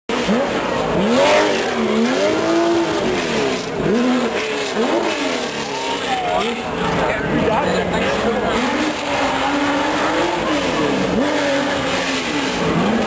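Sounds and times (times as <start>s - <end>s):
car engine revving: 0.1s - 13.0s.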